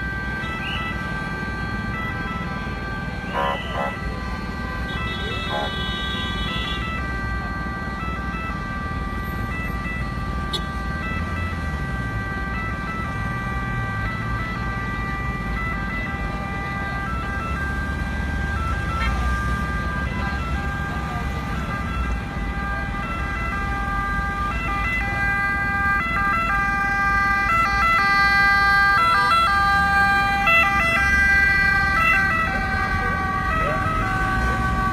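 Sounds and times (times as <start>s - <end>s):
low city traffic rumble: 0.0s - 34.9s
two-tone ambulance siren: 0.0s - 34.9s.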